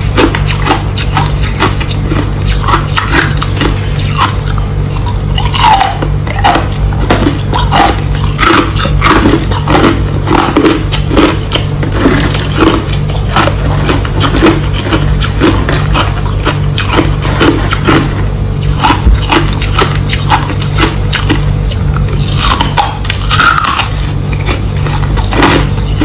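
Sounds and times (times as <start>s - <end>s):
crunching ice being chewed: 0.0s - 26.0s
steady low hum: 0.0s - 26.0s.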